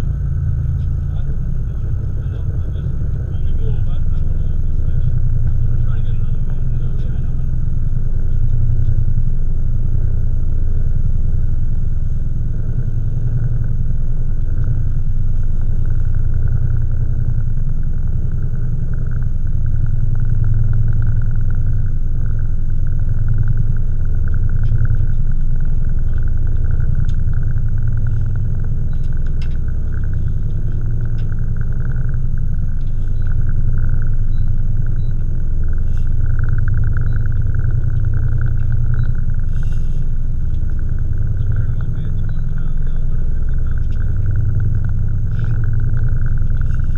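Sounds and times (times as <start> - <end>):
boat engine rumbling: 0.0 - 46.9.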